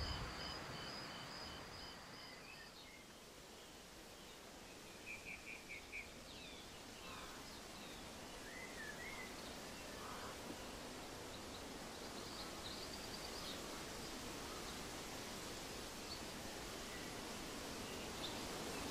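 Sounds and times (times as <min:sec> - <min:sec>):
background hiss: 0:00.0 - 0:18.9.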